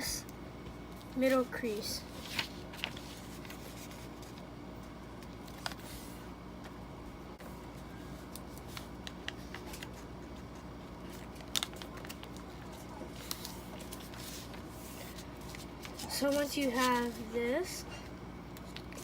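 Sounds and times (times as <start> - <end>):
faint steady hum: 0.0 - 19.0
paper crinkling and rustling: 1.0 - 6.8, 7.5 - 17.7, 18.5 - 19.0.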